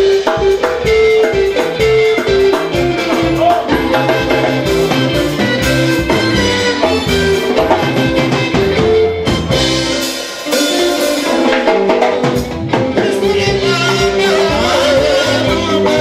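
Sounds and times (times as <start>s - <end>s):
drum kit beat: 0.0s - 16.0s
live band music: 0.0s - 16.0s.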